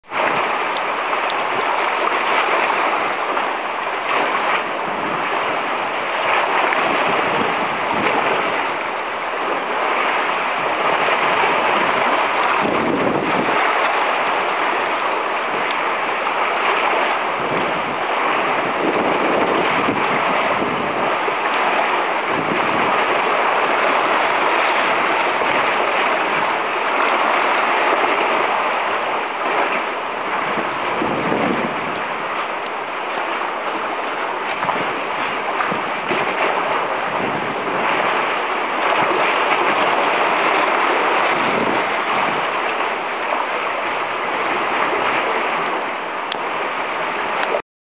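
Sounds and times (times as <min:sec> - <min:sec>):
waves splashing among pilings: 0:00.0 - 0:47.6.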